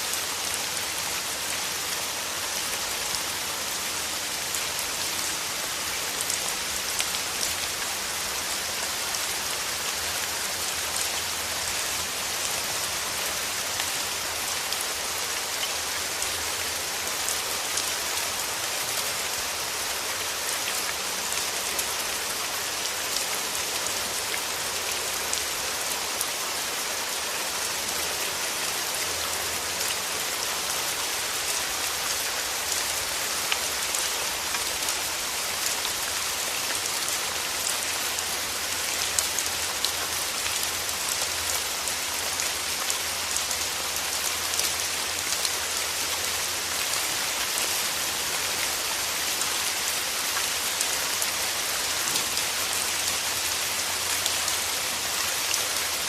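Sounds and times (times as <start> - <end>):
rain falling: 0.0 - 56.0
raindrops pattering on leaves: 0.0 - 56.0.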